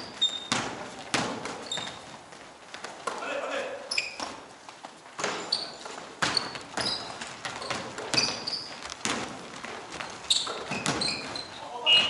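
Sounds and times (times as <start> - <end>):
basketball bouncing on court: 0.0 - 3.2, 5.2 - 12.0
sneakers squeaking on floor: 0.0 - 12.0.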